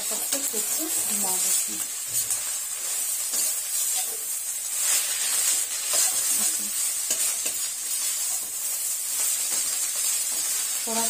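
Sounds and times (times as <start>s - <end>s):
vegetables sizzling in a frying pan: 0.0s - 11.0s
spatula scraping a pan: 0.3s - 11.0s.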